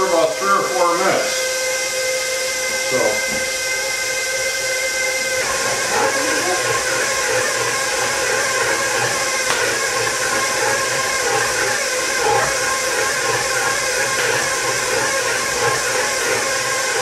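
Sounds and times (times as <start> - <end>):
stand mixer kneading dough: 0.0 - 17.0.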